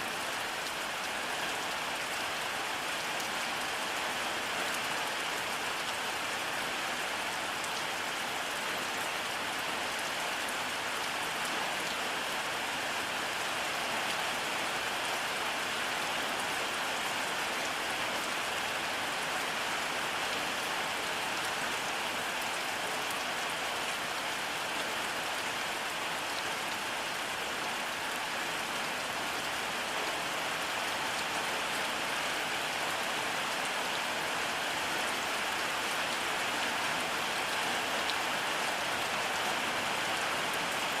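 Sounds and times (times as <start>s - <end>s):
steady rainfall: 0.0s - 41.0s.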